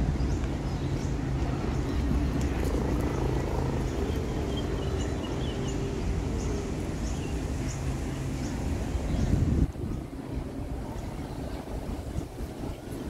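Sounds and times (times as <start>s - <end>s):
ferry engine humming: 0.0s - 13.0s.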